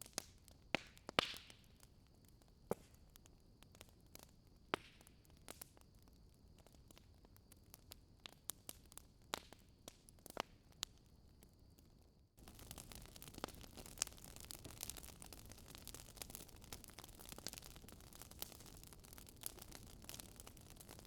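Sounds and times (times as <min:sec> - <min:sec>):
wood fire crackling: 0:00.0 - 0:11.0, 0:12.4 - 0:21.0.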